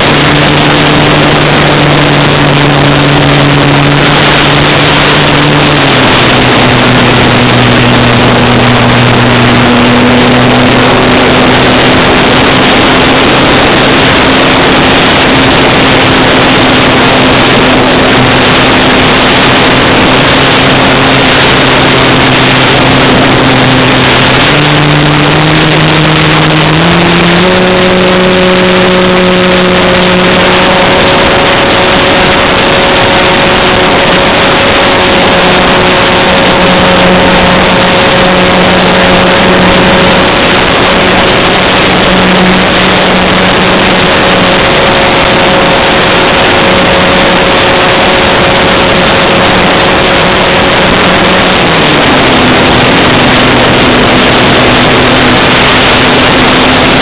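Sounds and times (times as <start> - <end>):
loud steady rushing noise: 0.0 - 57.0
model plane motor and propeller: 0.0 - 57.0.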